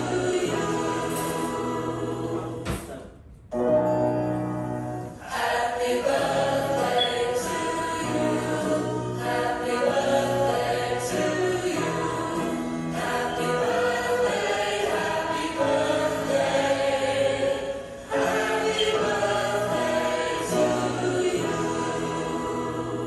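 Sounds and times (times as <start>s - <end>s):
choir singing long held notes: 0.0s - 3.0s, 5.0s - 23.0s.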